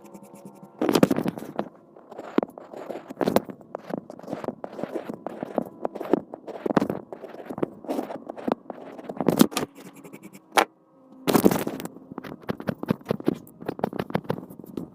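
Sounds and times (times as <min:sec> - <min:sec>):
drawing tool scratching on cup: 0:00.0 - 0:10.7, 0:11.4 - 0:14.9.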